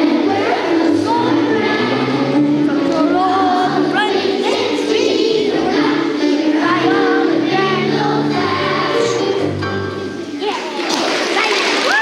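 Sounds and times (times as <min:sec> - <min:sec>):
children's choir singing: 0:00.0 - 0:11.8.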